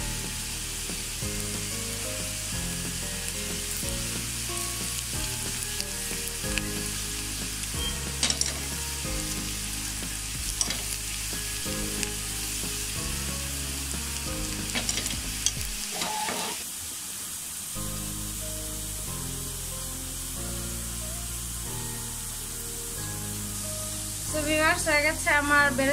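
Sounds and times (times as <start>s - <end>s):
onions sizzling in hot oil: 0.0s - 25.9s.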